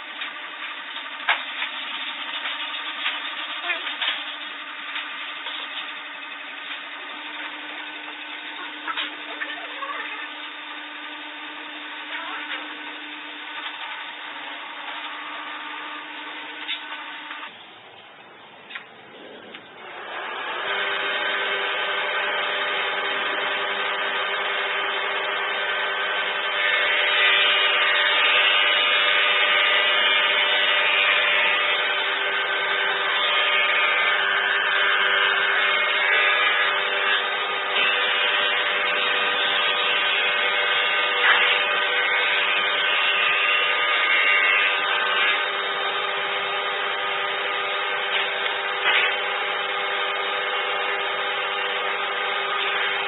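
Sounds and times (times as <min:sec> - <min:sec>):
power tool motor whining: 0:00.0 - 0:17.6, 0:19.0 - 0:53.0.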